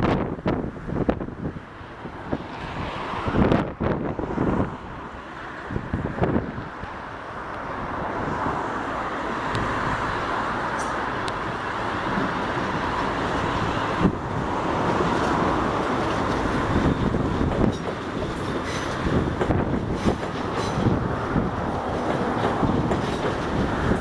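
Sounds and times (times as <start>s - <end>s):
large vehicle running: 0.0s - 24.0s.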